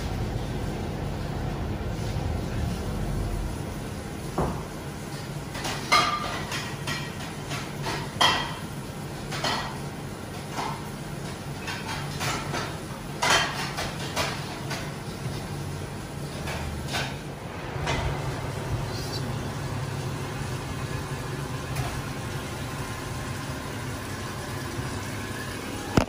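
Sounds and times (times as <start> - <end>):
oven humming: 0.0 - 26.0.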